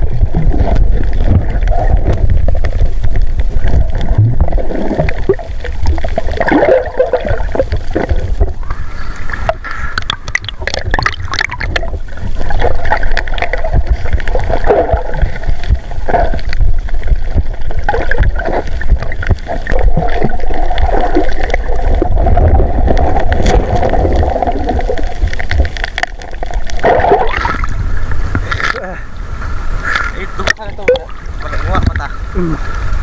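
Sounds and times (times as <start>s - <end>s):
underwater rumble and gurgling: 0.0s - 33.0s.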